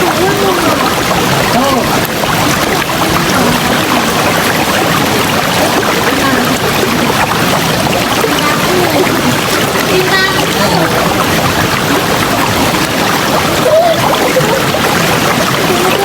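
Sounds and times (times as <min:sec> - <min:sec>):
river water rushing: 0:00.0 - 0:16.0
water gurgling: 0:00.0 - 0:16.0.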